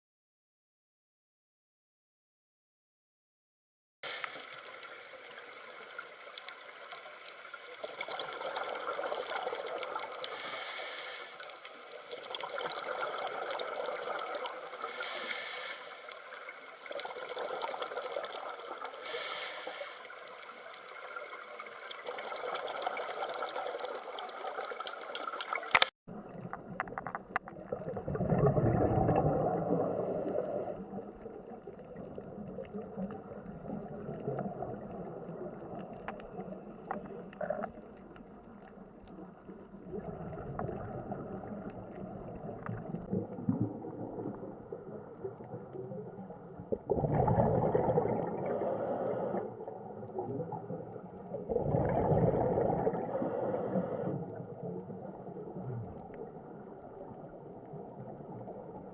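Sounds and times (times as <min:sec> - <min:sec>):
underwater bubbling and trickling: 0:04.0 - 0:58.9.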